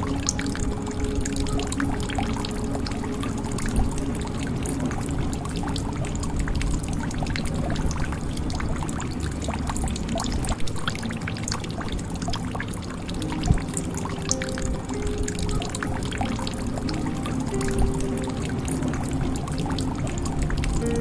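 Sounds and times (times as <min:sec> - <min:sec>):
water pouring into a jug: 0:00.0 - 0:21.0.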